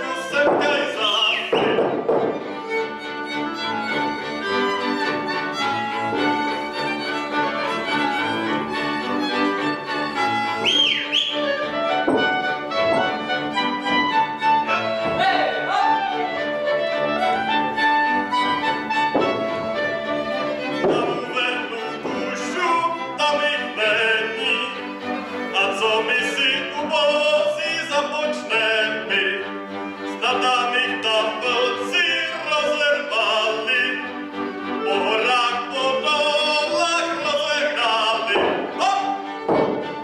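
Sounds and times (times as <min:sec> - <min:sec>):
fiddles playing melody: 0:00.0 - 0:40.0
folk ensemble playing: 0:00.0 - 0:40.0.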